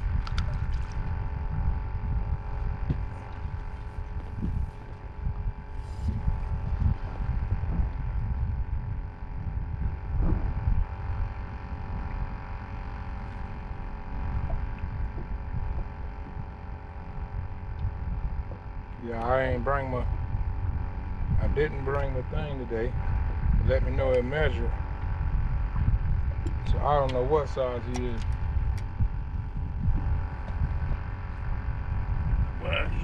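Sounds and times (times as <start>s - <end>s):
faint electric hum: 0.0s - 33.0s
wind buffeting microphone: 0.0s - 33.0s.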